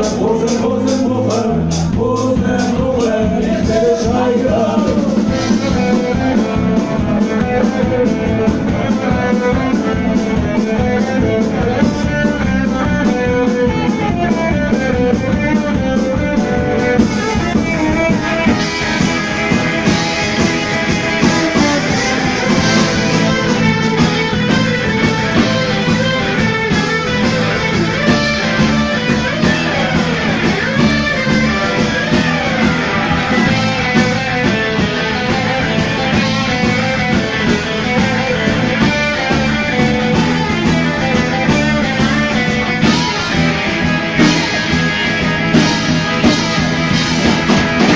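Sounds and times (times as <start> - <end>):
punk rock band playing: 0.0 - 47.9.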